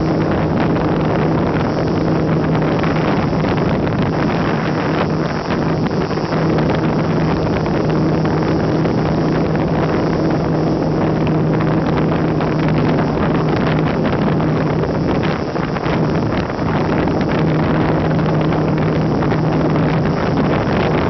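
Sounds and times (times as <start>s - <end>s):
electric motor and propeller humming: 0.0s - 21.0s
wind rushing over microphone: 0.0s - 21.0s.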